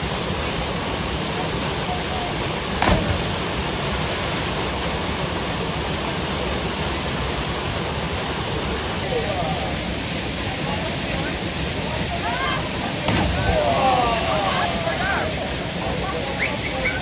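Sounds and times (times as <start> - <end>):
waterfall roaring: 0.1 - 17.0.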